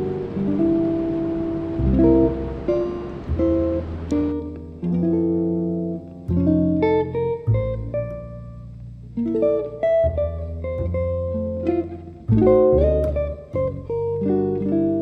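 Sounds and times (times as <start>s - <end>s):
guitar plucking single notes: 0.0s - 15.0s
low bass notes: 0.0s - 15.0s.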